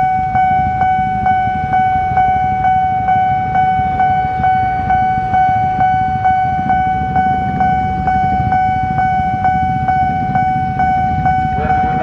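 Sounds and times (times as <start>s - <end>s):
level-crossing warning bell: 0.0s - 12.0s
low traffic rumble: 0.0s - 12.0s.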